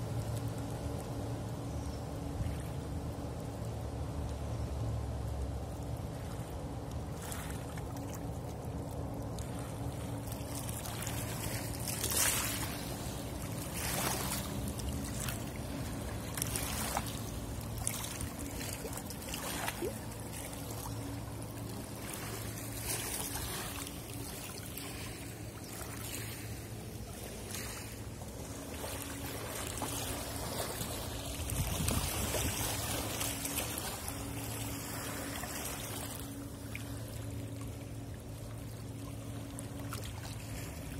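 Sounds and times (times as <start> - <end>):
ship engine drone: 0.0 - 40.9
water lapping on stony shore: 5.7 - 40.9.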